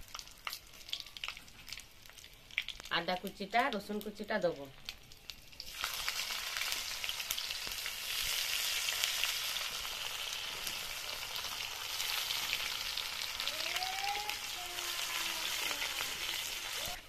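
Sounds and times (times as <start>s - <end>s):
ginger and garlic sizzling in oil: 0.0s - 17.0s.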